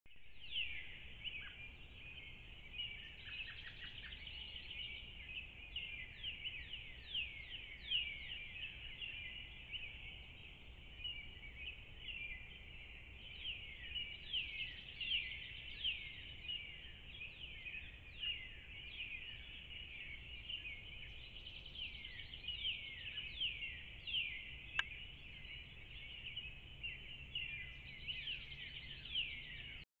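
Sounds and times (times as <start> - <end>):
songbirds chirping and whistling: 0.1 - 29.9.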